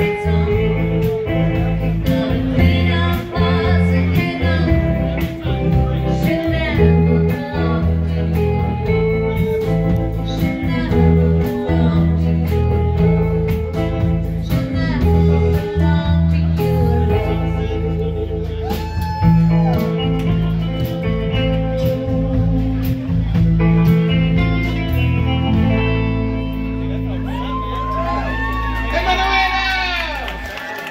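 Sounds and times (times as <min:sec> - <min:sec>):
rockabilly band playing live: 0:00.0 - 0:30.9.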